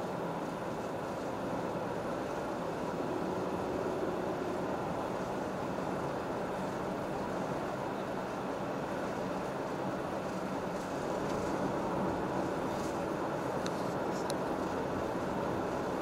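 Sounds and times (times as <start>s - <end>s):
vehicle running: 0.0s - 16.0s.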